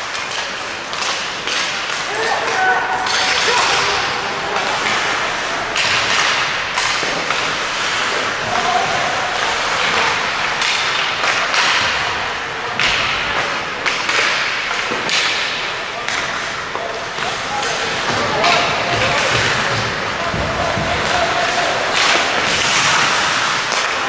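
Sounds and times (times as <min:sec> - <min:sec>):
sharp knocks of sticks and puck: 0:00.0 - 0:24.0
skates on ice: 0:00.0 - 0:24.0.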